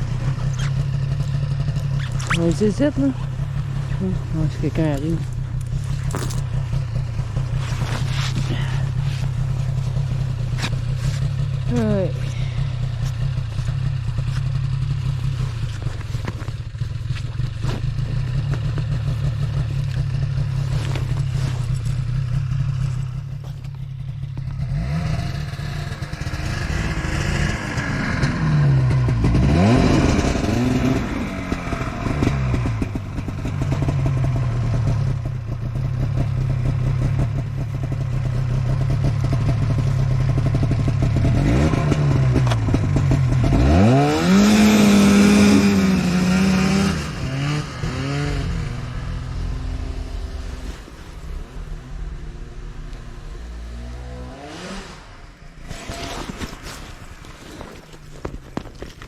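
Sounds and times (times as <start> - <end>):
vehicle engine revving: 0.0 - 35.3, 38.7 - 57.6.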